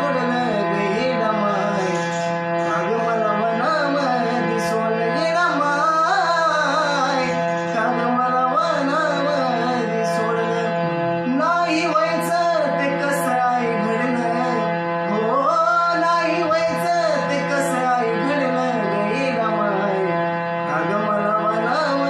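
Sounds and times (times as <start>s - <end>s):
ornamented melody line: 0.0s - 22.0s.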